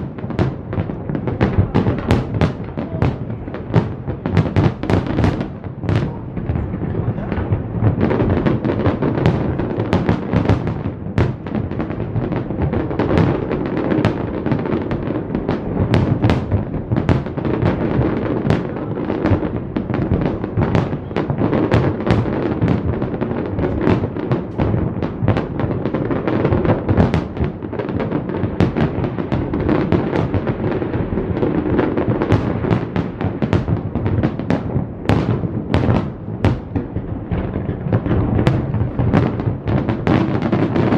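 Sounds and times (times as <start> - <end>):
fireworks bangs and booms: 0.0 - 40.9.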